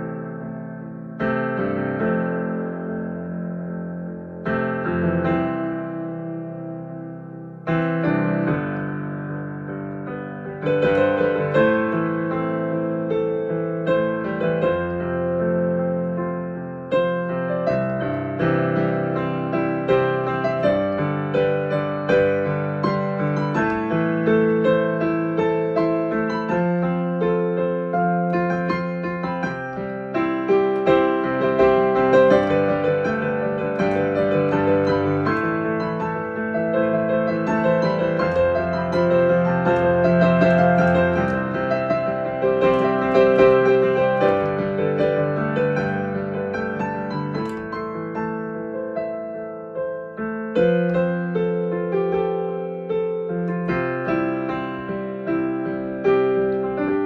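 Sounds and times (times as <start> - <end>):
slow gentle electric piano: 0.0 - 57.0.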